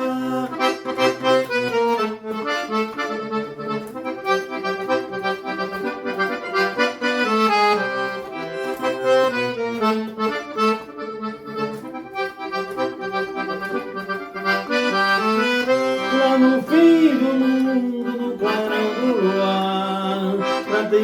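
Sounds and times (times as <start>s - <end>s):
accordion melody: 0.0s - 21.0s.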